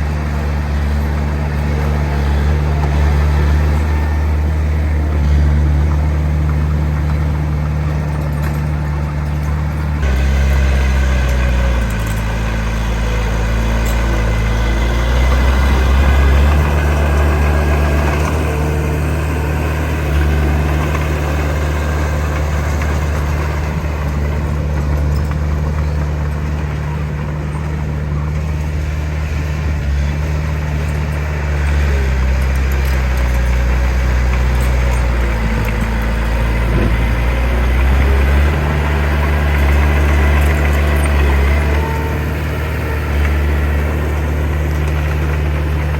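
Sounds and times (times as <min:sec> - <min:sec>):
heavy diesel engine under load: 0:00.0 - 0:45.9.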